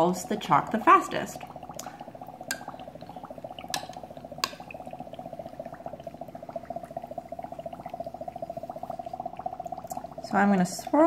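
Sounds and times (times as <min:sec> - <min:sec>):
dry ice bubbling: 0:00.0 - 0:11.0.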